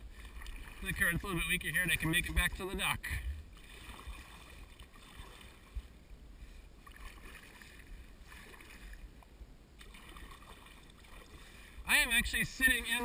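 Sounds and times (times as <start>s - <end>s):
paddle strokes in water: 0.0s - 2.5s, 3.1s - 11.8s.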